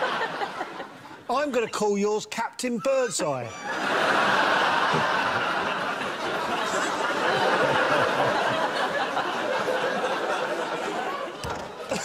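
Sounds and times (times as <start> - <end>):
studio audience laughing: 0.0 - 1.8, 2.8 - 12.0.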